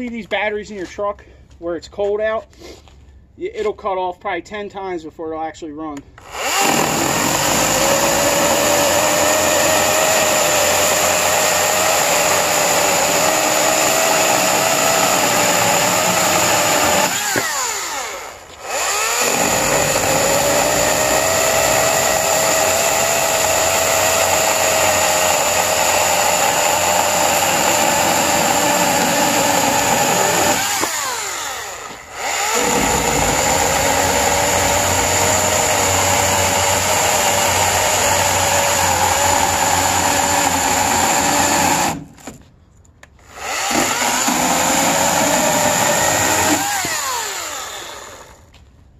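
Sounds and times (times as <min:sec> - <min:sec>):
chainsaw cutting wood: 0:06.2 - 0:42.4, 0:43.2 - 0:48.5.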